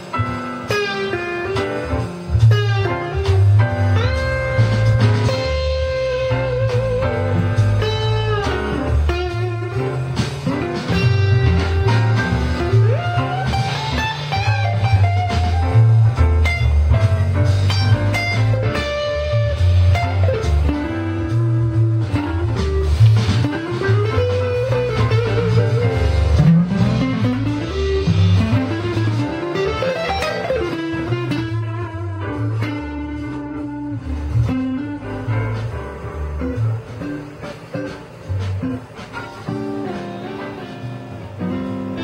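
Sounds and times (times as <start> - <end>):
backing track bass line: 0.0 - 42.0
electric guitar blues lead: 0.0 - 42.0.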